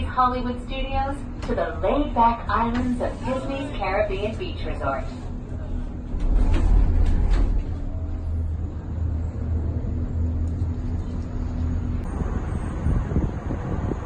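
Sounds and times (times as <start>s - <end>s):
gondola cabin hum and rumble: 0.0s - 14.0s.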